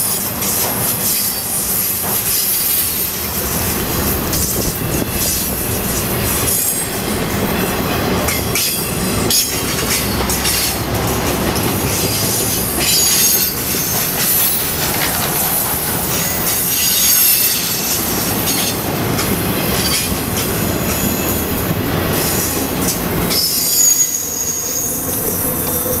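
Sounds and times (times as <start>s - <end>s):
train wheel squeal: 0.0s - 26.0s
wheels clacking over rails: 0.0s - 26.0s.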